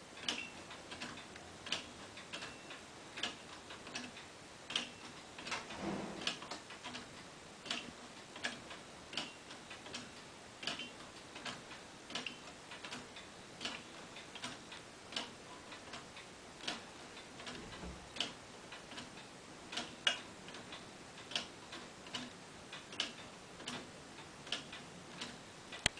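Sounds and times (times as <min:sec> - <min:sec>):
pendulum clock ticking: 0:00.1 - 0:25.9.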